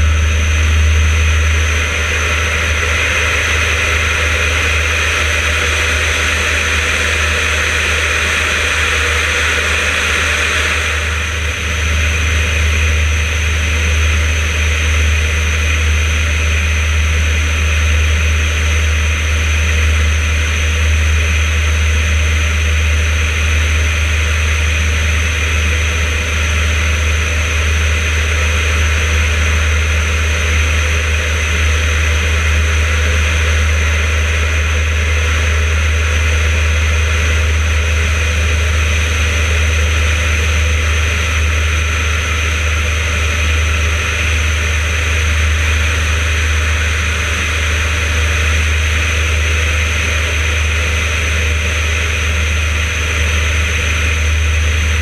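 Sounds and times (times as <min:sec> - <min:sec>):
radial engine and propeller droning: 0:00.0 - 0:55.0.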